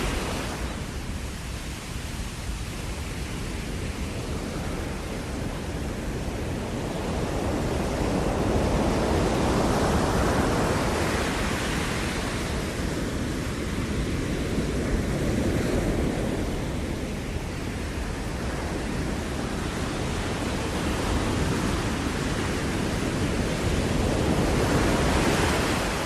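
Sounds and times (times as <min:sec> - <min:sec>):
ocean waves breaking on shore: 0:00.0 - 0:26.0.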